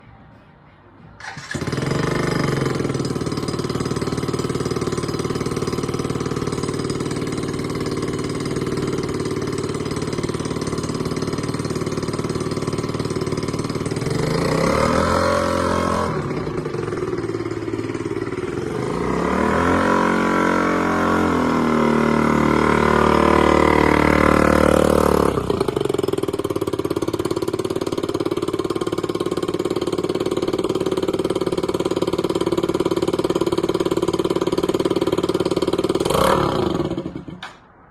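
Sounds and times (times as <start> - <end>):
scooter engine idling and revving: 1.2 - 37.7.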